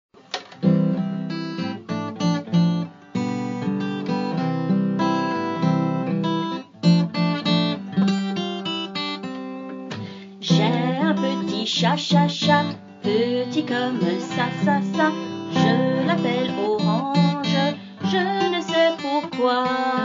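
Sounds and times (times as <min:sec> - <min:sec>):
strummed string instrument chords: 0:00.6 - 0:19.3.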